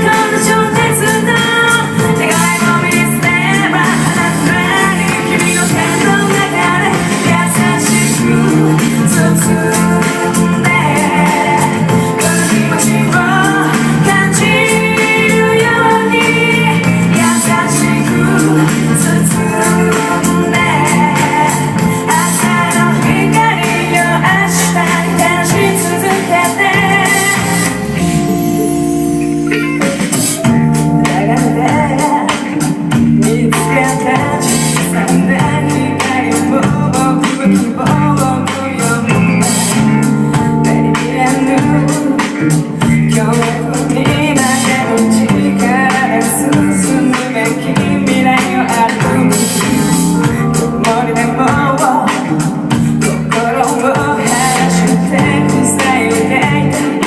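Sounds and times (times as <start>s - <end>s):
live rock band: 0.0s - 57.0s
person singing: 0.0s - 57.0s.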